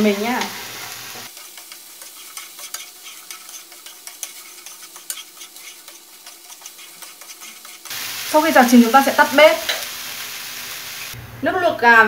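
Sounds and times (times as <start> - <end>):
food sizzling in a frying pan: 0.0 - 11.2.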